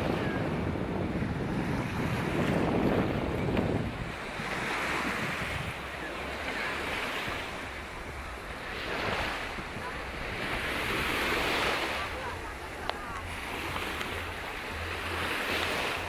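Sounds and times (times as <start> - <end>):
waves washing onto shore: 0.0 - 16.0
wind on microphone: 0.0 - 16.0.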